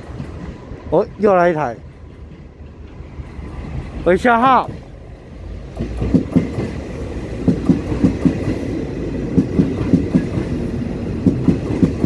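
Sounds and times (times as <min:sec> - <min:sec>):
electric train rolling past: 0:00.0 - 0:12.0
wheels clacking over rail joints: 0:00.0 - 0:12.0.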